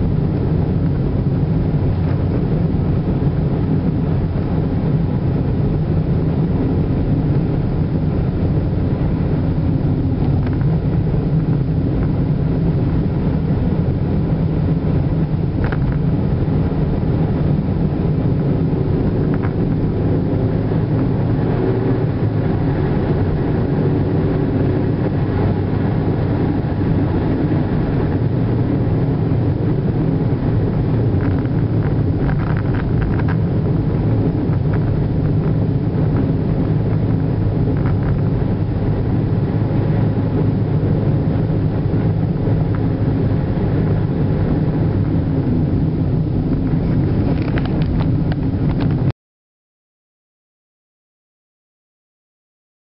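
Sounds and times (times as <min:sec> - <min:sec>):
car engine and road noise: 0:00.0 - 0:49.1.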